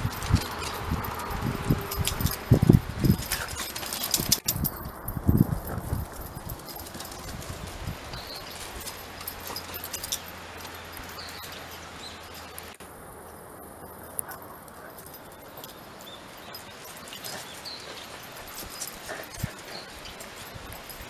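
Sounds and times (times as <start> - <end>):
dog paws ticking on concrete: 0.0 - 21.0.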